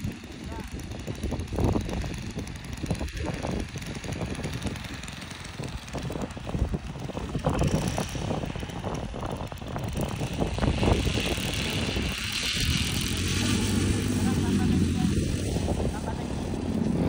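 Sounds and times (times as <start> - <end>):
small model engine idling unevenly: 0.0 - 17.0.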